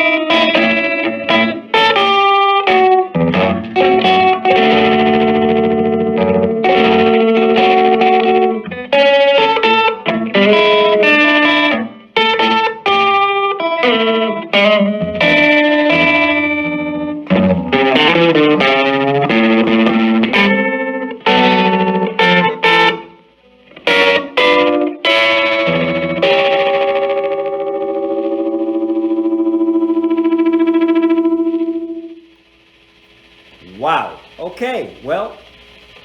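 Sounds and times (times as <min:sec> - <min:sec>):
electric guitar notes and chords: 0:00.0 - 0:34.6.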